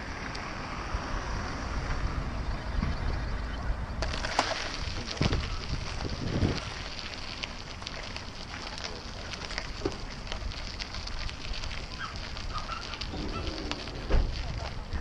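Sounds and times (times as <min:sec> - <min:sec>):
bicycle tyres on gravel: 0:00.0 - 0:15.0
wind on microphone: 0:00.1 - 0:06.9, 0:09.7 - 0:15.0.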